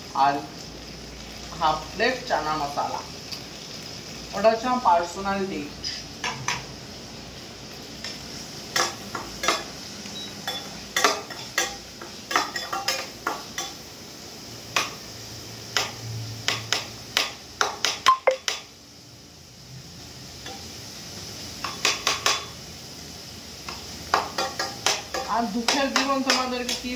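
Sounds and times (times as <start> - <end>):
frying sizzle: 0.0 - 26.9.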